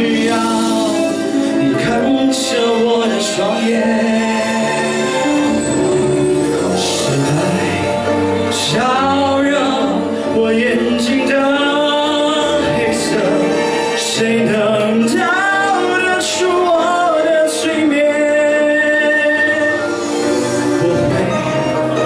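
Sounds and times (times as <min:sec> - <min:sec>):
man singing into a microphone: 0:00.0 - 0:22.0
musical accompaniment: 0:00.0 - 0:22.0.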